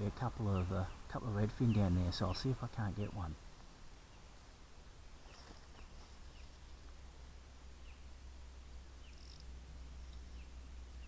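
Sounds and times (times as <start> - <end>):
low steady rumble: 0.0 - 11.0
small birds chirping: 0.0 - 11.0.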